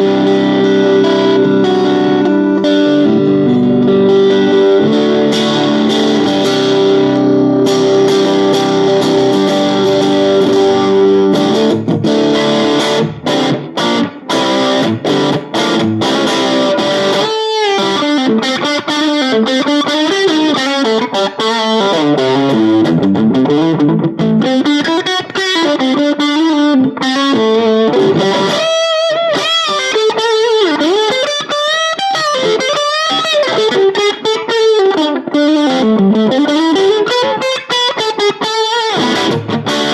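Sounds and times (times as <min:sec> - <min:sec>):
electric guitar with effects: 0:00.0 - 0:39.9.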